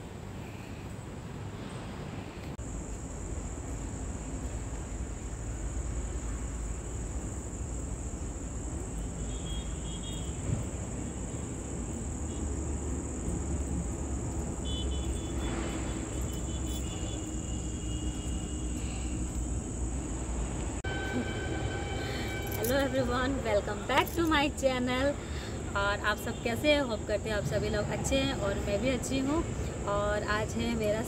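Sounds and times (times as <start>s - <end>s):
cricket trill: 2.6s - 31.0s.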